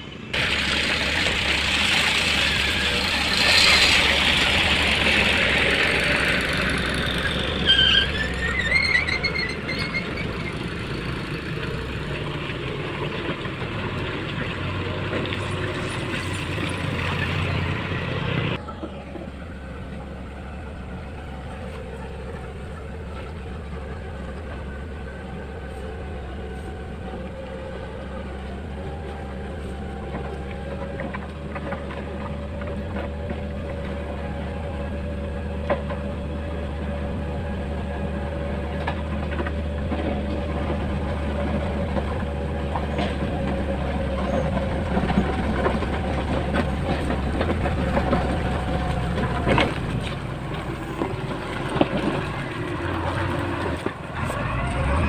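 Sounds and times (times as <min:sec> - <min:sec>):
mid-pitched engine whine: 0:00.0 - 0:55.0
diesel engine running under load: 0:00.3 - 0:55.0.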